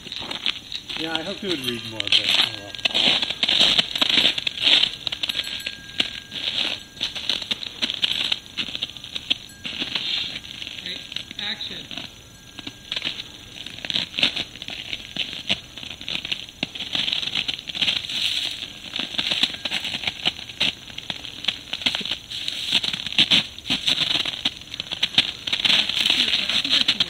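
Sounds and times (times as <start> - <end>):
dry reeds rustling and crackling: 0.0 - 27.0
footsteps in snow: 0.0 - 27.0.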